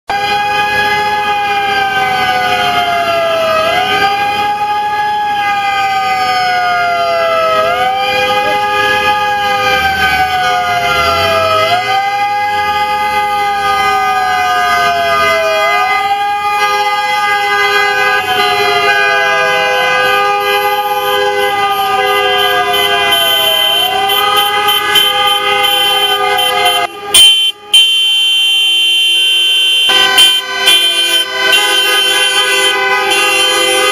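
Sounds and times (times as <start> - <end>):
police siren wailing: 0.1 - 33.9.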